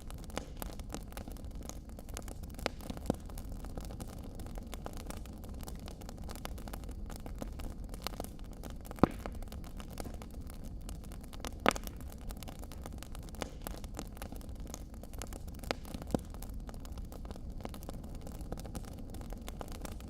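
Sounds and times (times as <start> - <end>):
sharp fire pops: 0.0 - 20.0
wood fire crackling: 0.0 - 20.0.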